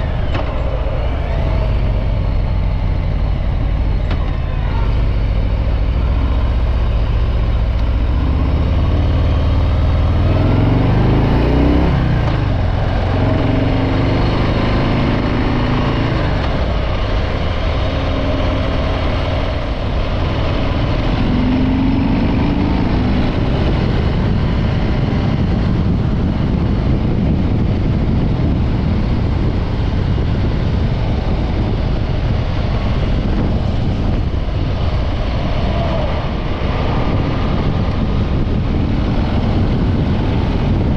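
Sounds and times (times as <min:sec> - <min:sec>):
motorcycle engine accelerating: 0:00.0 - 0:40.9
road and wind noise: 0:00.0 - 0:40.9.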